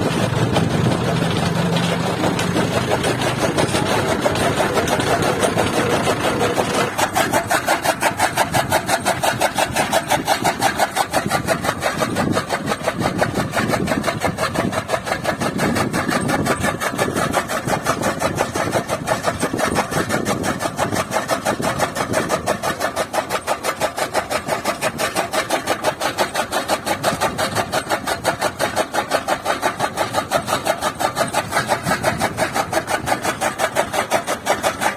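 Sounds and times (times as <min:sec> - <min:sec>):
chaff cutter chopping fodder: 0:00.0 - 0:34.9
tractor diesel engine under load: 0:00.0 - 0:34.9.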